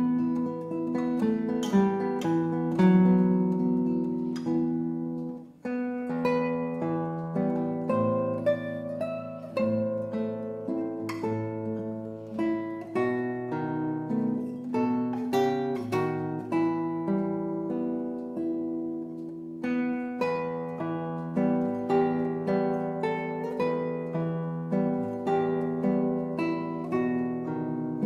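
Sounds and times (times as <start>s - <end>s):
classical guitar fingerstyle: 0.0s - 28.0s.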